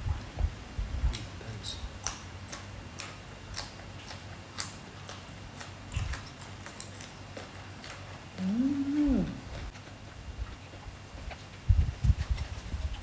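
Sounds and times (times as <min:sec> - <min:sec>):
crunching of beans being chewed: 0:02.0 - 0:13.0.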